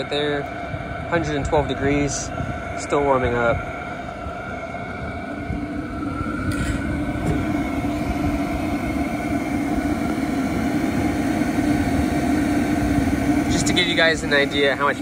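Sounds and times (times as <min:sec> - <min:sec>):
air heater fan humming: 0:00.0 - 0:15.0.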